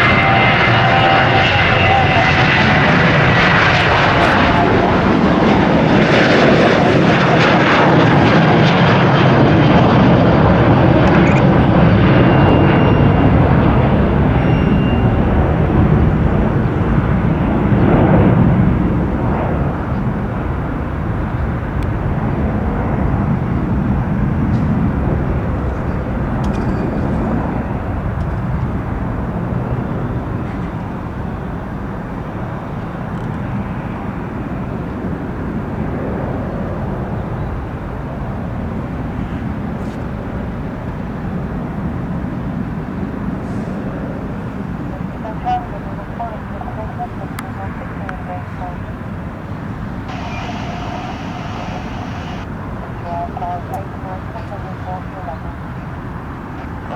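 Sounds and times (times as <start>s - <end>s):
jet engines rumbling: 0.0s - 56.9s.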